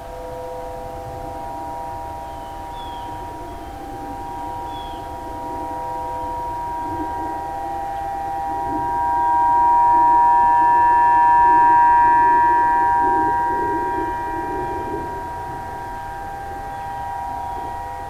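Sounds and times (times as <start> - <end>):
tornado warning sirens: 0.0 - 18.0.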